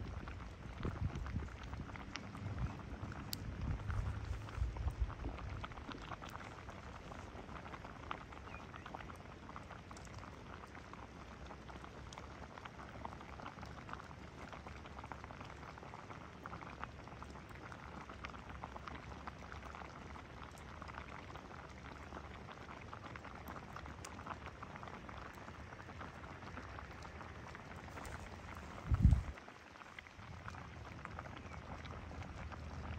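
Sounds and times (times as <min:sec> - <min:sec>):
water boiling with bubbling: 0:00.0 - 0:32.9.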